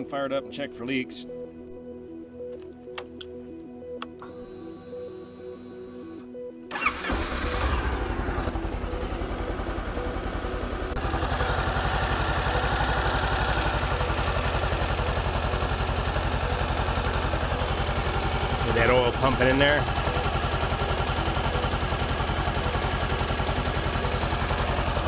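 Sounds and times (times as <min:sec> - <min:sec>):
motorcycle engine starting and idling: 0:04.1 - 0:25.0.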